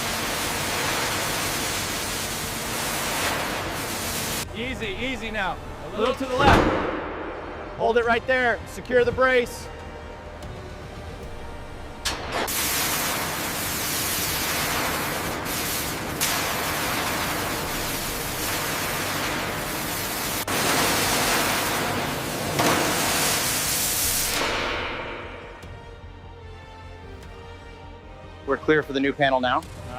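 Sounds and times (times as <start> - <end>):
loud steady hissing: 0.0 - 29.9.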